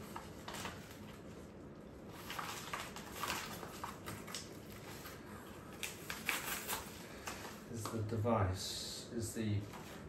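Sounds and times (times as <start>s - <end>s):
plastic mailer rustling: 0.0s - 8.1s.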